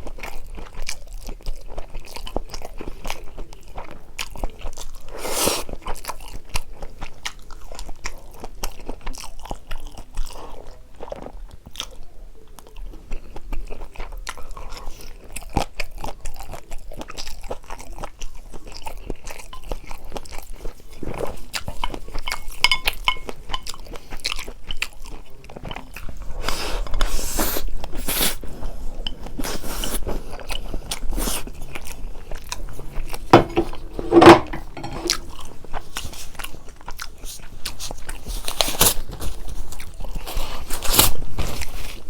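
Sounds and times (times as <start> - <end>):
chewing and biting food: 0.0 - 33.3, 35.1 - 42.0.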